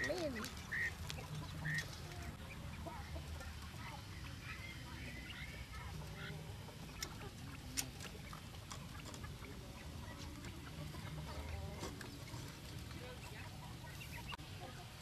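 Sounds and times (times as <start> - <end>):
quails chirping softly: 0.0 - 15.0.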